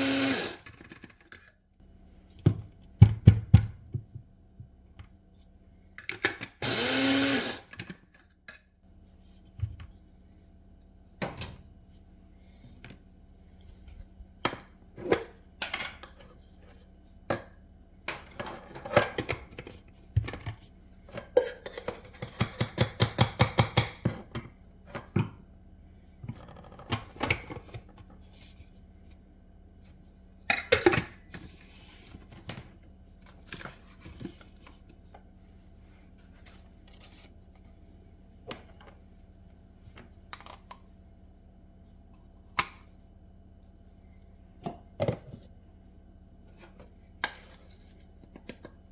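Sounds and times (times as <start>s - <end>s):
faint steady hum: 1.8s - 48.9s.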